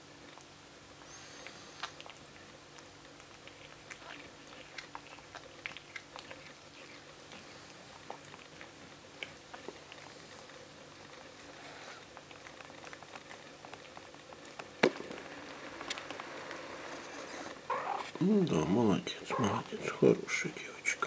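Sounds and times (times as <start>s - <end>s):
cat licking kitten: 0.1s - 21.0s.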